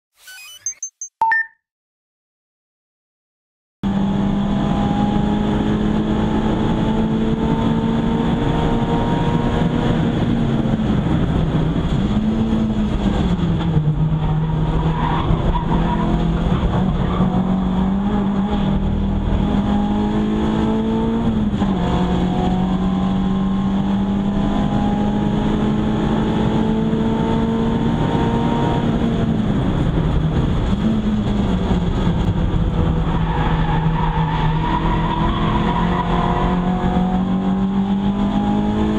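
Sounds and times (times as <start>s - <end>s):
road and wind noise: 3.8s - 38.9s
car engine running hard: 3.9s - 38.9s.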